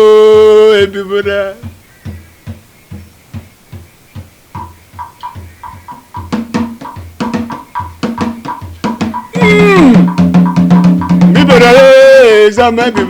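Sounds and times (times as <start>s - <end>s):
low drum beats: 0.0s - 13.0s
high percussion clicks: 1.6s - 13.0s.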